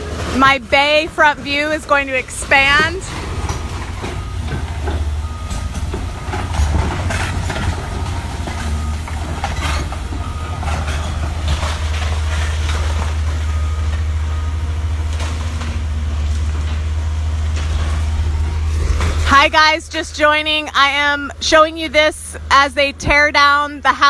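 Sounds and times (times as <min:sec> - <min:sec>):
debris crunching and clattering: 0:00.0 - 0:20.6
demolition machine engine rumble: 0:00.0 - 0:24.0.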